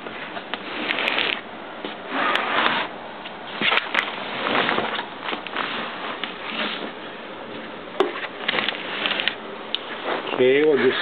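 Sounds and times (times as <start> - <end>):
rustling and scraping: 0.0 - 11.0.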